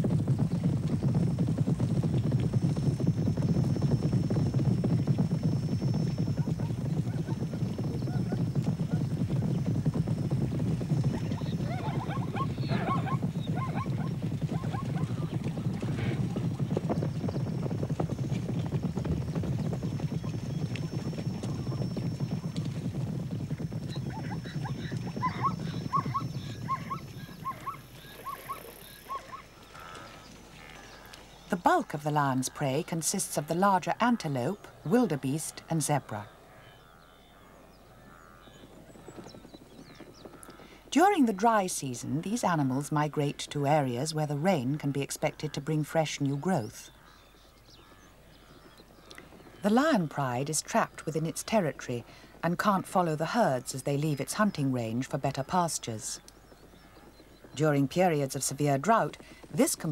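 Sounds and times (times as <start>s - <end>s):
hooves galloping on dry ground: 0.0s - 59.9s.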